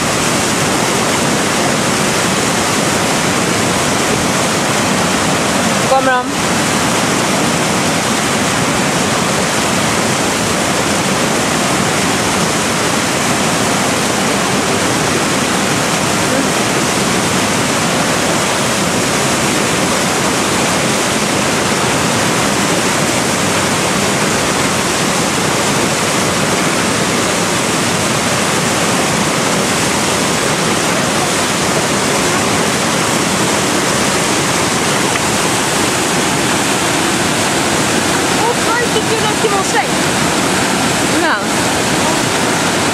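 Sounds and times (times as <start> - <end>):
river rapids rushing: 0.0 - 42.9.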